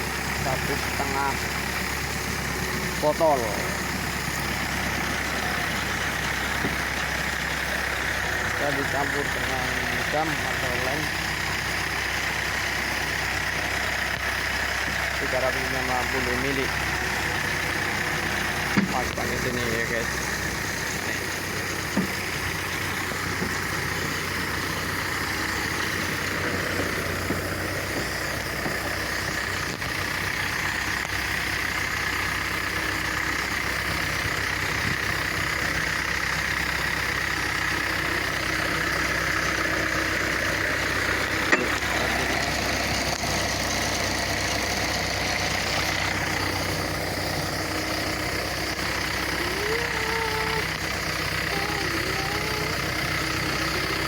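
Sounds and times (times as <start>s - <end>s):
engine driving spray pump: 0.0s - 54.0s.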